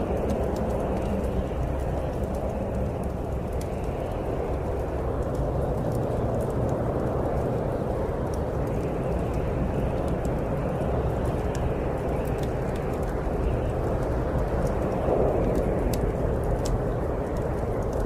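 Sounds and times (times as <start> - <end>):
snowstorm wind rushing: 0.0 - 18.0
wood fire crackling: 0.0 - 18.0.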